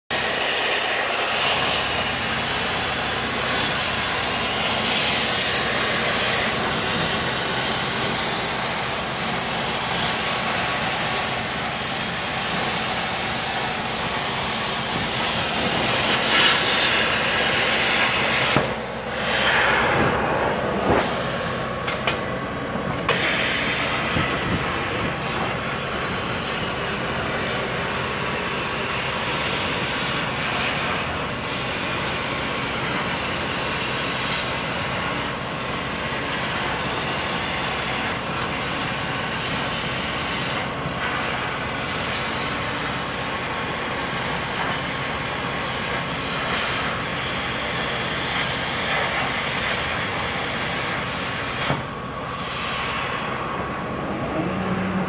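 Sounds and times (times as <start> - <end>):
plasma cutter arc hissing: 0.1 - 55.0.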